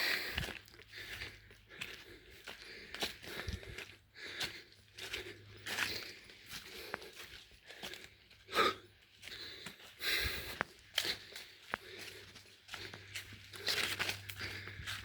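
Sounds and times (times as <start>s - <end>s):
footsteps crunching on trail: 0.0s - 15.0s.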